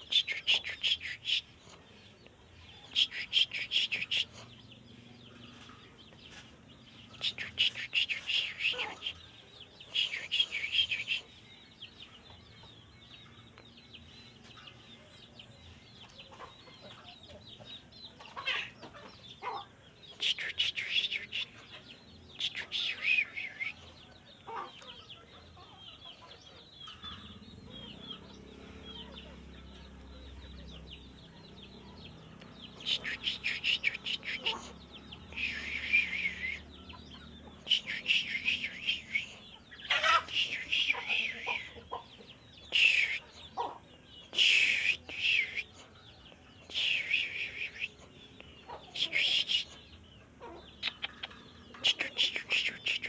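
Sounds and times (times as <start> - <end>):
bird chattering song: 0.0 - 53.0
faint bird chirping: 0.0 - 53.0.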